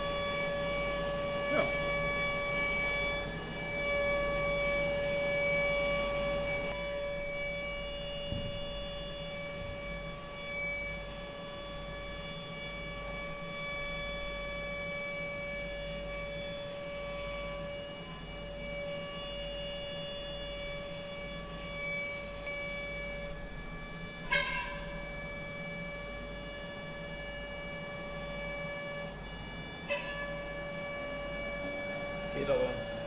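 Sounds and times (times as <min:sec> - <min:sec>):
router spindle cutting metal whine: 0:00.0 - 0:33.0.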